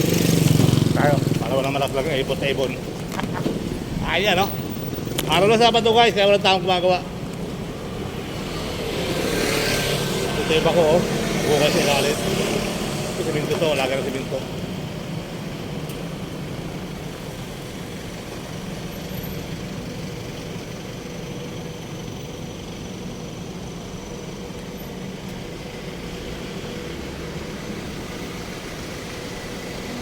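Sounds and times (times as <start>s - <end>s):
vehicle engines humming: 0.0s - 30.0s.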